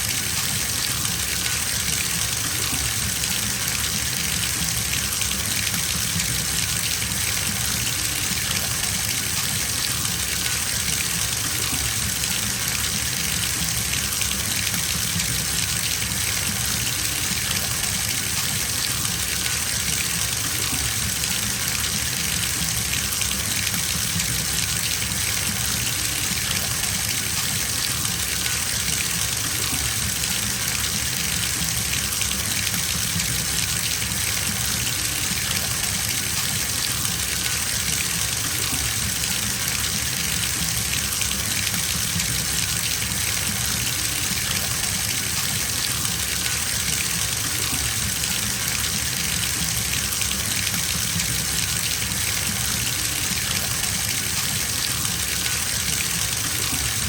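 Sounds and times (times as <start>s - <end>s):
water running into bathtub: 0.0s - 57.0s.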